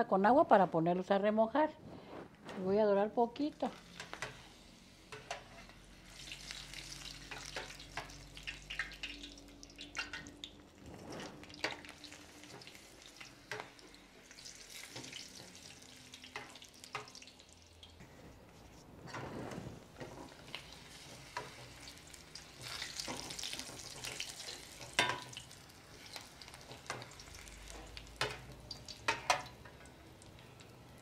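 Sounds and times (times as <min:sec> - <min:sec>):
chiles sizzling in oil: 0:03.0 - 0:18.0, 0:19.8 - 0:31.0.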